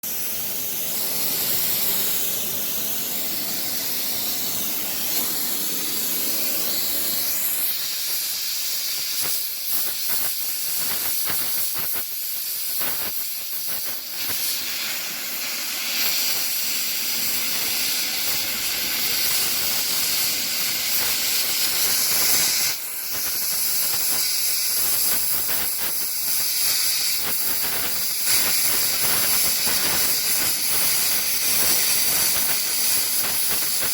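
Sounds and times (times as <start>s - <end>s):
gas hissing under pressure: 0.0s - 33.9s.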